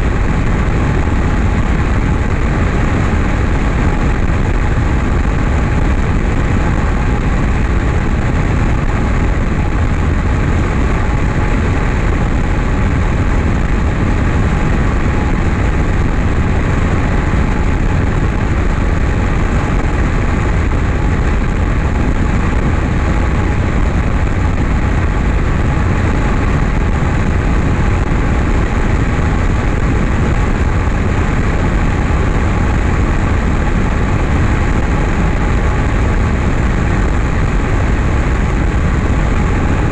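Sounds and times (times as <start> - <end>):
light airplane engine drone: 0.0 - 39.9
wind rushing over microphone: 0.0 - 39.9.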